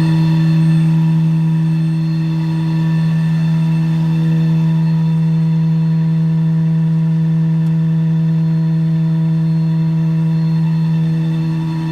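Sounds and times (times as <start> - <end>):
vacuum truck engine and pump hum: 0.0 - 11.9.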